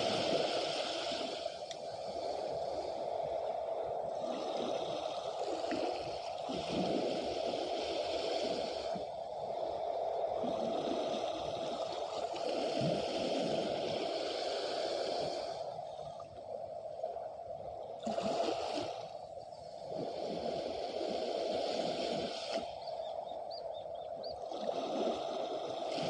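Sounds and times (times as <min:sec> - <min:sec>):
waves washing on shore: 0:00.0 - 0:26.0.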